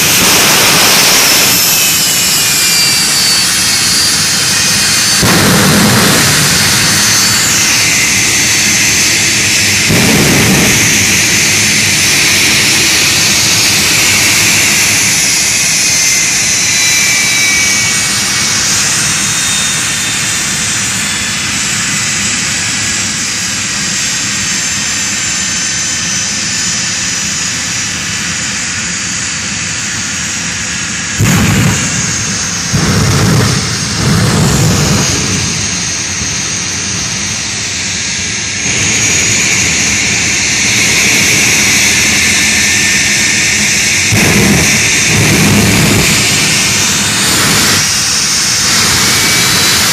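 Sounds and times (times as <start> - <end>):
afterburner blasts: 0.0 - 23.7, 30.9 - 49.9
jet engine whining: 0.0 - 49.9.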